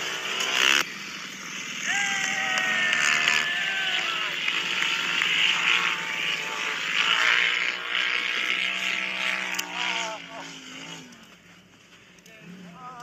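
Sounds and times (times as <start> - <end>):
off-road vehicle engines: 0.0 - 13.0.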